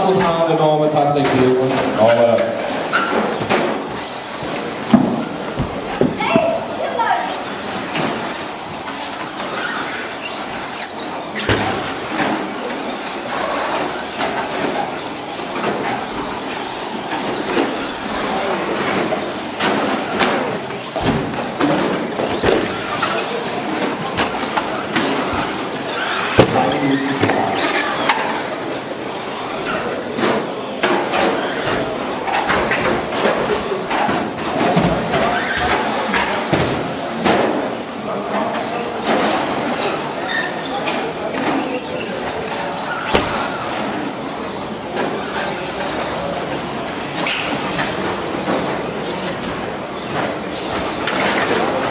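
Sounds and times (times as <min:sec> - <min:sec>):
rc trucks racing noise: 0:00.0 - 0:51.9.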